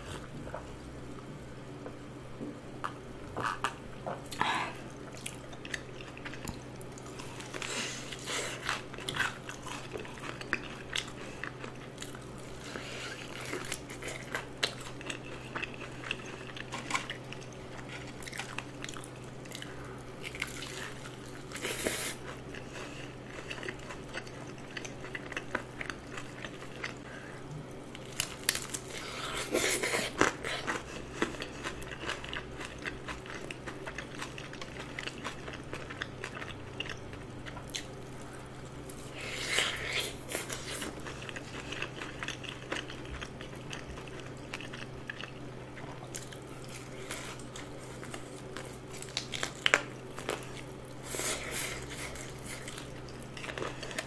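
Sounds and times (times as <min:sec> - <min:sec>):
steady low hum: 0:00.0 - 0:54.0
crunching fried chicken: 0:05.1 - 0:54.0.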